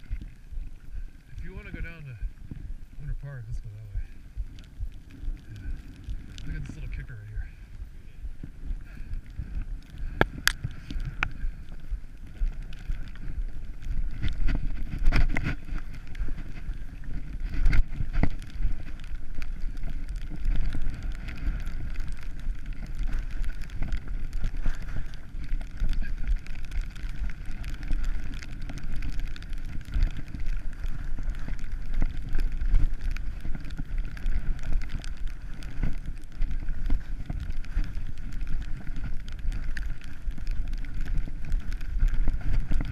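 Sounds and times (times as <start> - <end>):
skis scraping over packed snow: 0.0 - 42.9
wind rumbling on microphone: 0.0 - 42.9.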